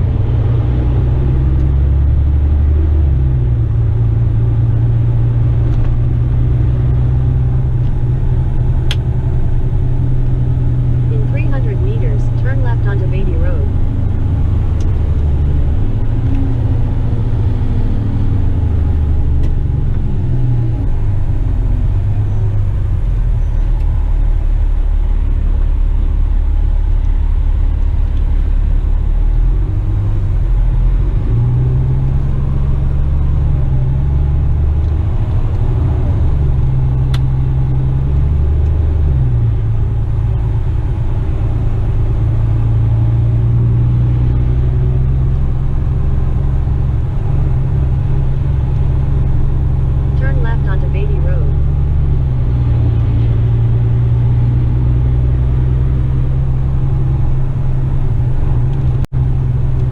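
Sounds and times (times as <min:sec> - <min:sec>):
diesel truck engine rumbling: 0:00.0 - 0:59.9.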